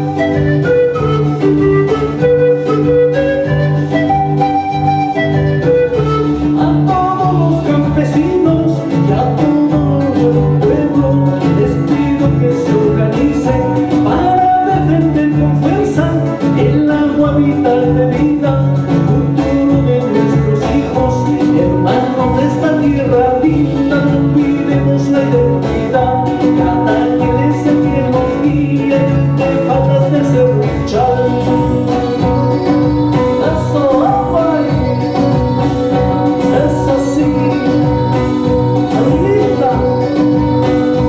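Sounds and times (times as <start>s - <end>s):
man singing folk song: 0.0s - 41.0s
strummed classical guitar: 0.0s - 41.0s.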